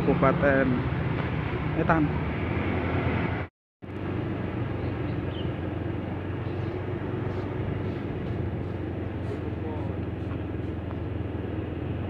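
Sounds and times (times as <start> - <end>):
vehicle engine hum and road noise: 0.0 - 12.0.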